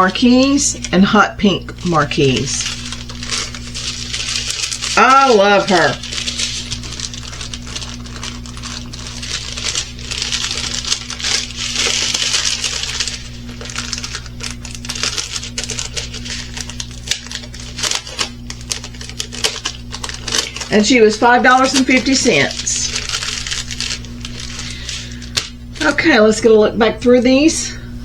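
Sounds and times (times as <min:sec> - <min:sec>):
plastic packaging crinkling: 0:00.0 - 0:26.2
steady low hum: 0:00.0 - 0:28.0.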